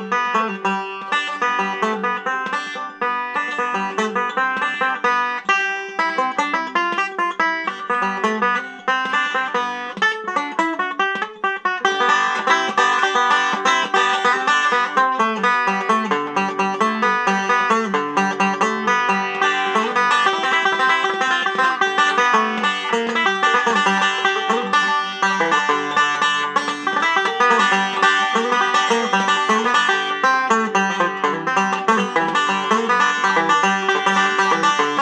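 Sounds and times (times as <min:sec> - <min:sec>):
banjo picked fast: 0:00.0 - 0:35.0.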